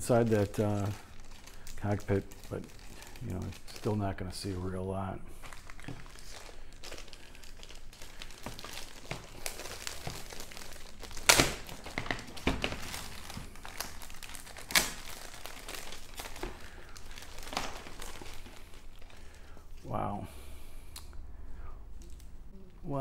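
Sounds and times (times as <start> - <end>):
plastic bag crinkling: 0.0 - 19.8.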